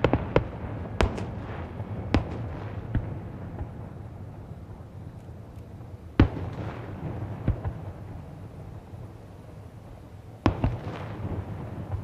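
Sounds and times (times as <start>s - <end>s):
fireworks bangs: 0.0s - 4.8s, 6.1s - 12.0s.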